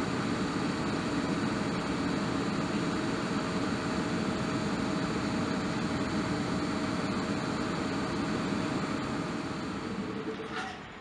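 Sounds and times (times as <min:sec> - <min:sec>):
thin steady whine: 0:00.0 - 0:11.0.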